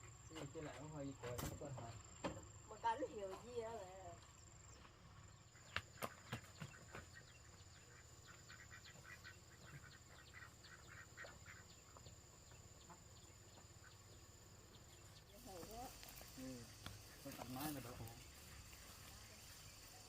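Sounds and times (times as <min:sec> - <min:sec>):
faint high bird chirps: 0:02.6 - 0:20.0.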